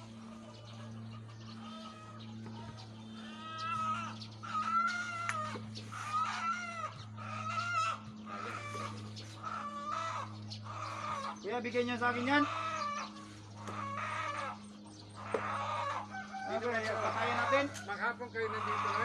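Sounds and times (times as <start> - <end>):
low hum: 0.0 - 18.7
chickens squawking in alarm: 0.0 - 19.0.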